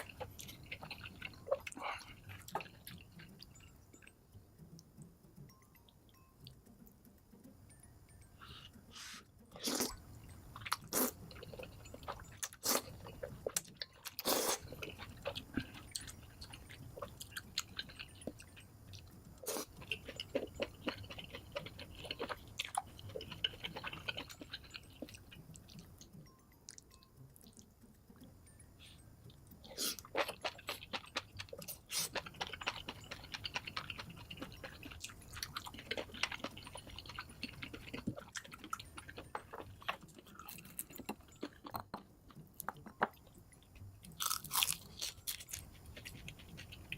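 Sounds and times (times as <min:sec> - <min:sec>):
rapid chewing and crunching: 0:00.0 - 0:04.1, 0:08.9 - 0:46.9.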